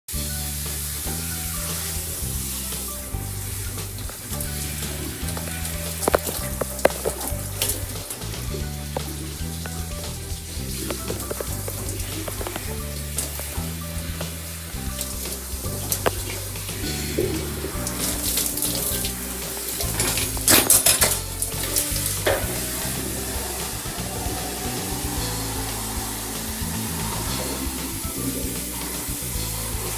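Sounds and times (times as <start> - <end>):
background music bass line: 0.1 - 29.9
shower spray hissing: 0.1 - 29.9.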